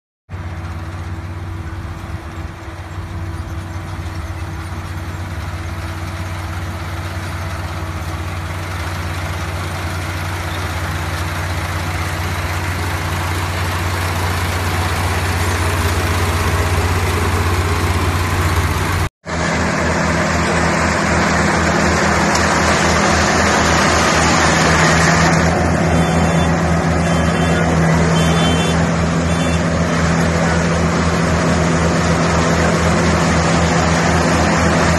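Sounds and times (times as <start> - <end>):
combine harvester diesel engine: 0.3 - 34.9.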